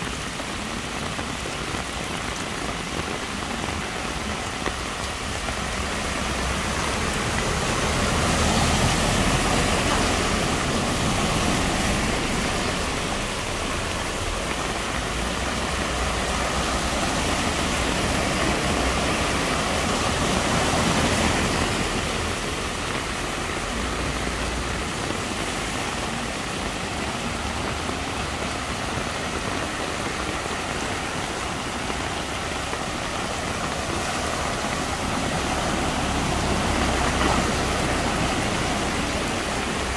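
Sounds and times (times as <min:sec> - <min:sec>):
cars splashing through floodwater: 0:00.0 - 0:39.9
heavy rain: 0:00.0 - 0:39.9.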